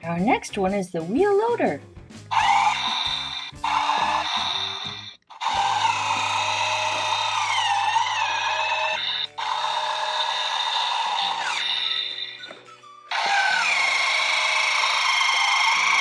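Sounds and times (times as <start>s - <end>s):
background music: 0.0s - 13.2s
toy electric motor whirring: 2.3s - 16.0s.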